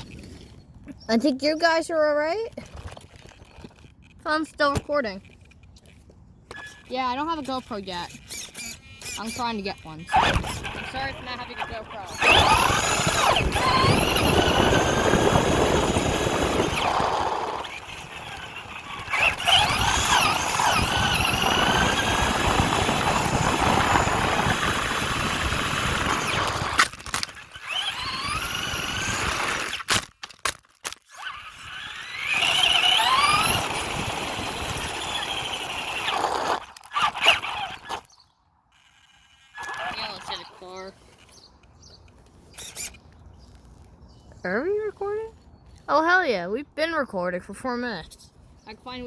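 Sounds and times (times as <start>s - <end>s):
rattling chassis and tyres: 0.0s - 45.9s
toy car motor whine: 2.6s - 43.9s.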